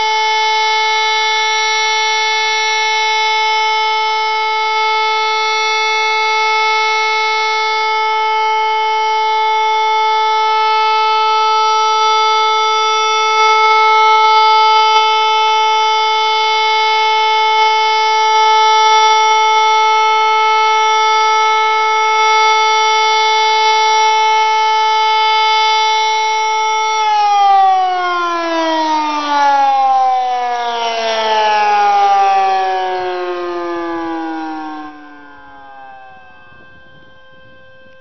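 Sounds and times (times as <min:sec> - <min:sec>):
warning siren steady tone: 0:00.0 - 0:38.0.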